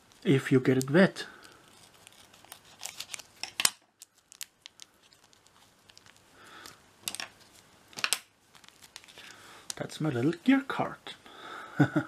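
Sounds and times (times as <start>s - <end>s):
card crinkling: 0.1s - 10.4s.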